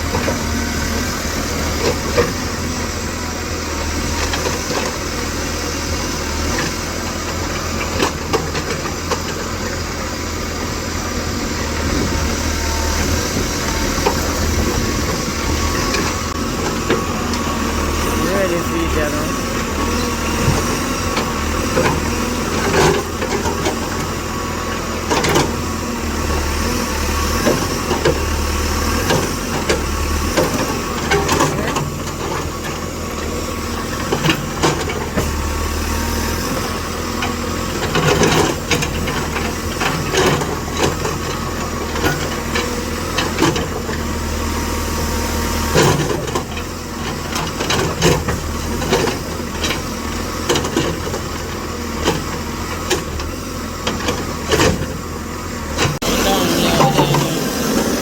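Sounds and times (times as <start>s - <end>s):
tractor engine rumbling: 0.0s - 58.0s.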